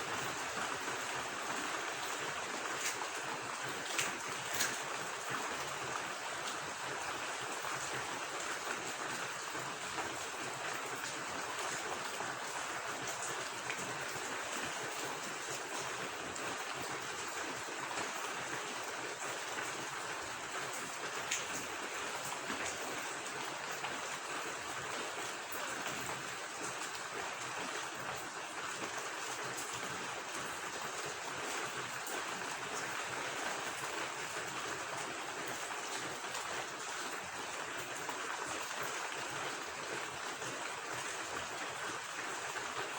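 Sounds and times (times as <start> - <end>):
running water: 0.0 - 42.9
steady rain: 0.0 - 42.9.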